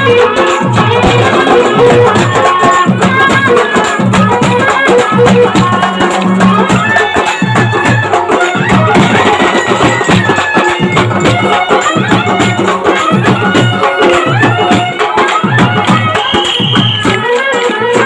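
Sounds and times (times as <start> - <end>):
dense percussion rhythm: 0.0 - 17.4
folk music melody: 0.0 - 18.0.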